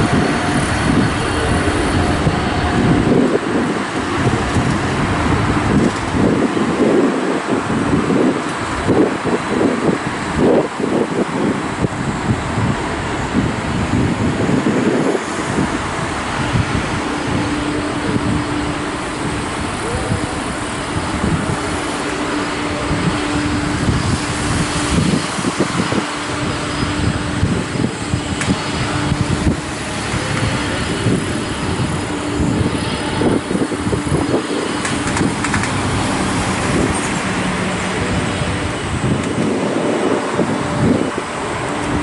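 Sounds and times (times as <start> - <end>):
jet engines at takeoff: 0.0 - 42.0.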